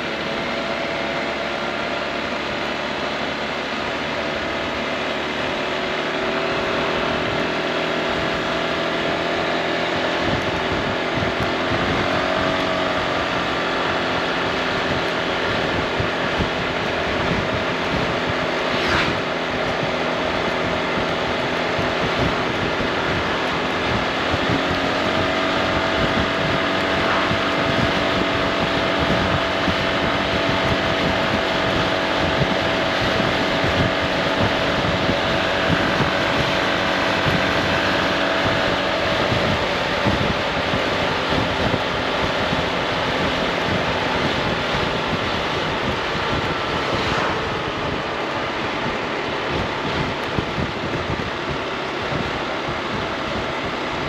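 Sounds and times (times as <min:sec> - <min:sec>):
scooter engine droning: 0:00.0 - 0:54.0
wind rushing over microphone: 0:00.0 - 0:54.0.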